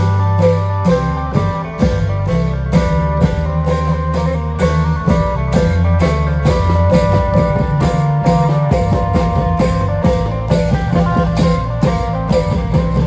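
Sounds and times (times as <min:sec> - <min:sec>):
heavy bass line: 0:00.0 - 0:13.0
plucked string melody: 0:00.0 - 0:13.0
steady drum beat: 0:00.0 - 0:13.0.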